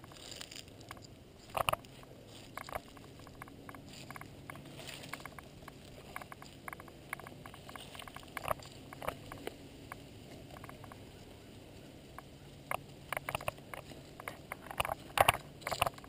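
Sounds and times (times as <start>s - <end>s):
faint low hum: 0.0s - 16.0s
footsteps on dry leaves: 0.0s - 16.0s.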